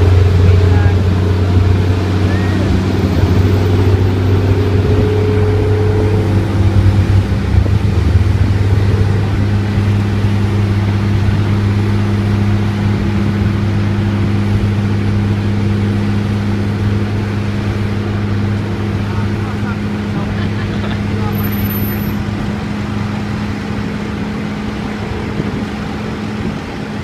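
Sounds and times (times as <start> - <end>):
airliner engine drone: 0.0 - 27.0.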